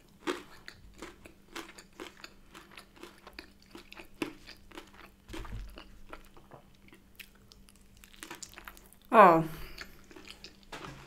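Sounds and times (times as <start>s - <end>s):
chewing with wet smacks: 0.0s - 10.7s.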